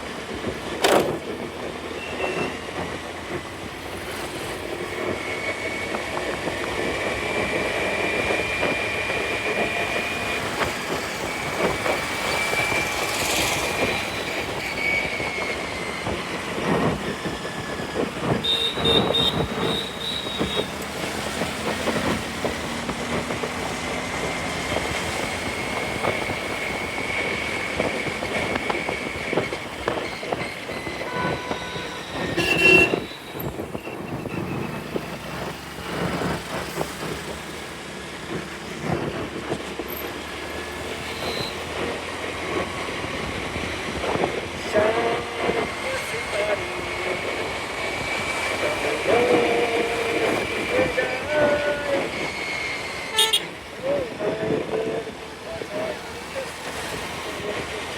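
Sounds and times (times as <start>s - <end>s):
city traffic: 0.0s - 57.9s
scooter riding noise: 0.0s - 57.9s.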